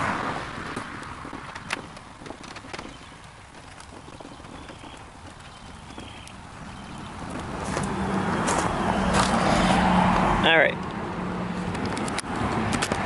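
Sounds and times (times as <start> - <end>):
light rain: 0.0 - 11.8
wind buffeting microphone: 0.0 - 13.0.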